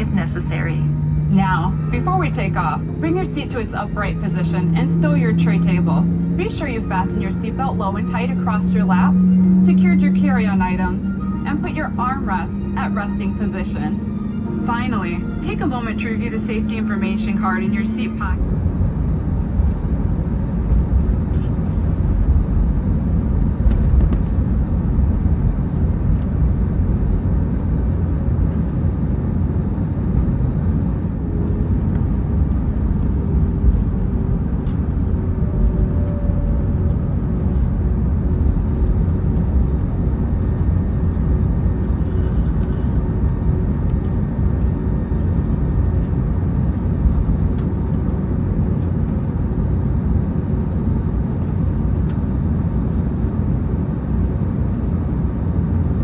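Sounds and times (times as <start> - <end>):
aircraft cabin low rumble: 0.0 - 56.0.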